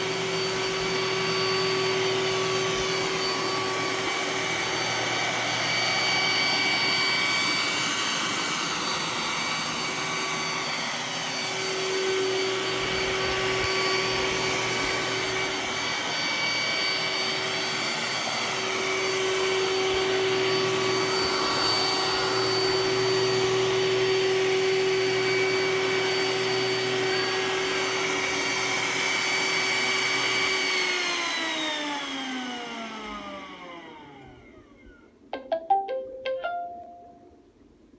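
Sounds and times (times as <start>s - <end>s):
robot vacuum running: 0.0s - 35.0s.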